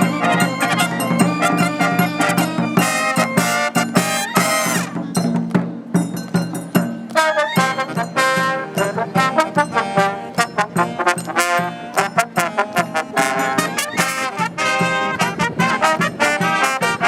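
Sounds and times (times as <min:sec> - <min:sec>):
marching brass band: 0:00.0 - 0:05.9, 0:07.0 - 0:17.0
drum beat: 0:00.0 - 0:17.0.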